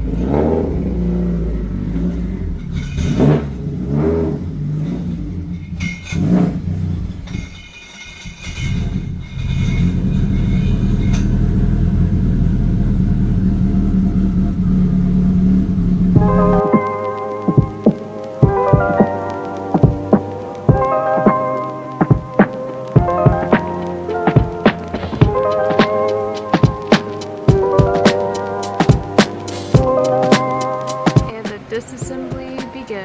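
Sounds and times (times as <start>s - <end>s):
car engine revving: 0.0s - 7.6s, 8.3s - 16.7s, 19.6s - 31.3s.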